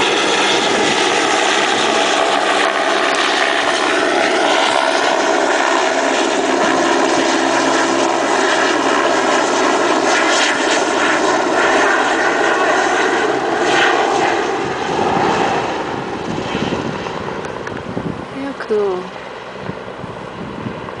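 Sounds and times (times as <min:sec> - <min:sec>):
helicopter rotor and engine: 0:00.0 - 0:21.0.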